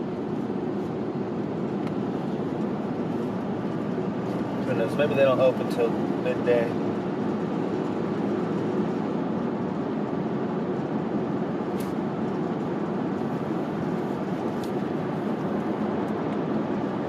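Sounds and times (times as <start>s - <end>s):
road and engine noise in vehicle: 0.0s - 17.0s.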